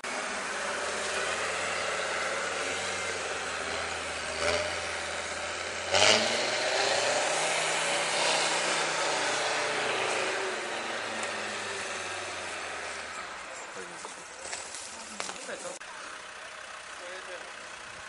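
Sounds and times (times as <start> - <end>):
engine running and revving: 0.0 - 18.0.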